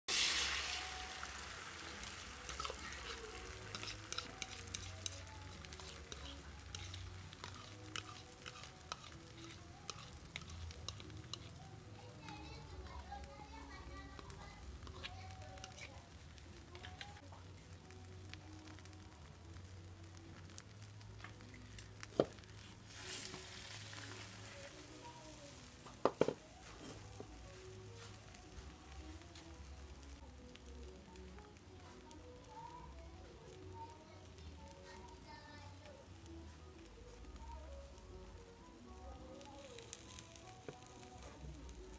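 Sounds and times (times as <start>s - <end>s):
egg sizzling in a hot pan: 0.1s - 41.9s
oil crackling and popping: 0.1s - 41.9s.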